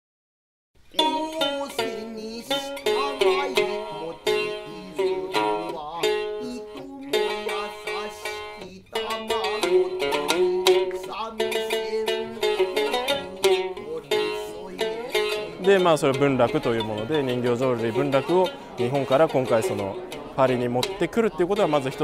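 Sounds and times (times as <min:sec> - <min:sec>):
shamisen plucked: 0:00.9 - 0:22.0
narrator chanting: 0:01.8 - 0:22.0.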